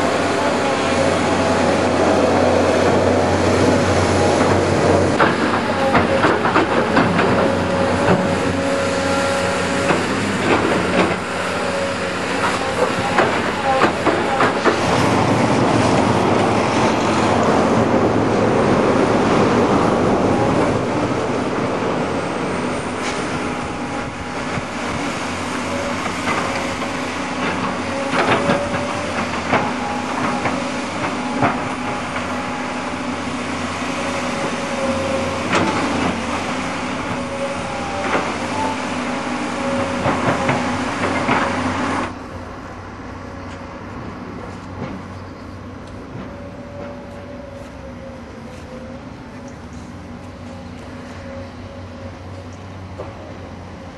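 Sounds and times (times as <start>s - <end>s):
excavator diesel engines running: 0.0s - 53.9s.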